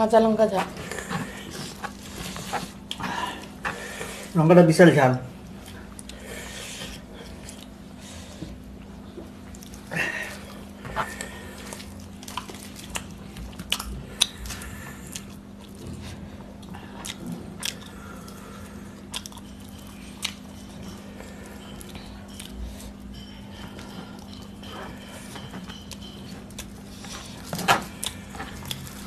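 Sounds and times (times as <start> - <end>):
steady low hum: 0.0 - 29.0
close chewing: 0.2 - 4.4, 5.4 - 29.0.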